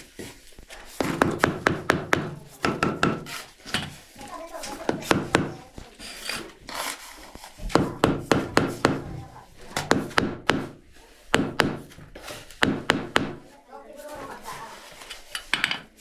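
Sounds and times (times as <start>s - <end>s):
scraping and rubbing: 0.0s - 16.0s.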